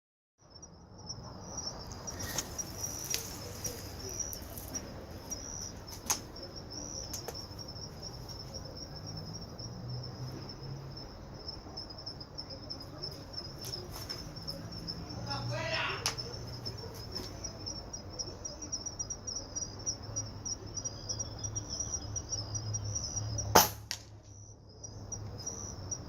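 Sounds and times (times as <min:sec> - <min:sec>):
crickets chirping: 0:00.4 - 0:26.0.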